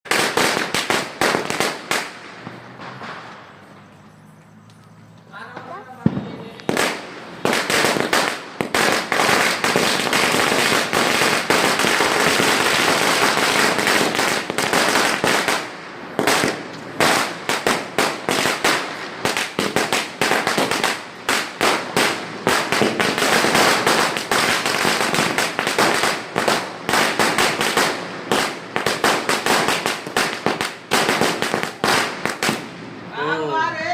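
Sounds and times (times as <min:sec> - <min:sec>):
firecrackers banging and crackling: 0:00.0 - 0:33.3.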